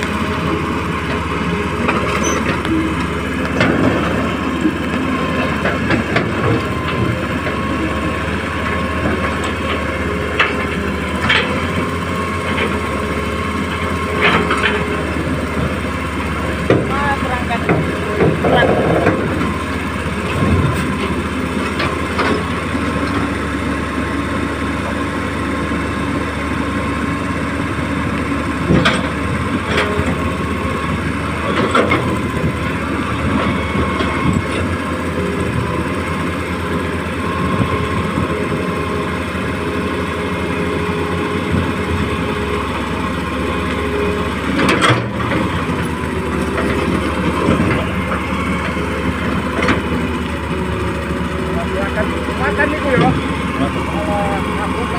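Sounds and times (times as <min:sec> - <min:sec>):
model excavator motors whining: 0:00.0 - 0:54.9.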